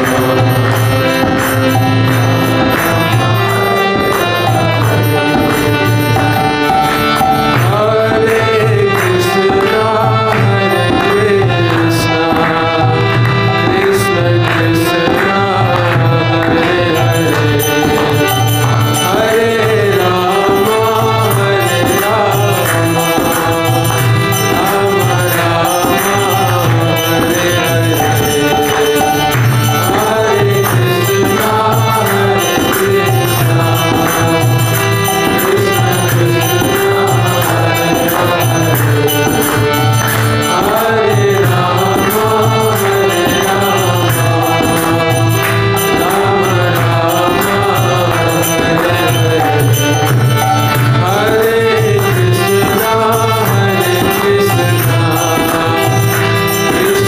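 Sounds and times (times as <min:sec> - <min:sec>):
harmonium drone: 0:00.0 - 0:57.0
man singing lead: 0:00.0 - 0:57.0
men chanting: 0:00.0 - 0:57.0.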